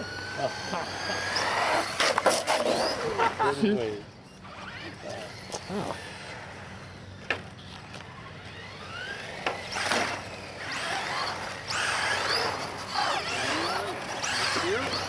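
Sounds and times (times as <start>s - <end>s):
electric motor whine: 0.0s - 3.4s, 4.4s - 15.0s.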